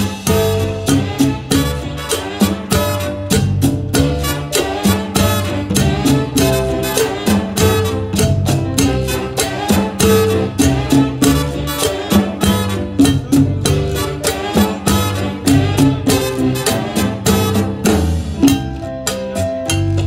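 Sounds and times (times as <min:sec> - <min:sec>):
saxophones: 0:00.0 - 0:18.3
drums and cymbals beat: 0:00.0 - 0:20.0
live band playing: 0:00.0 - 0:20.0.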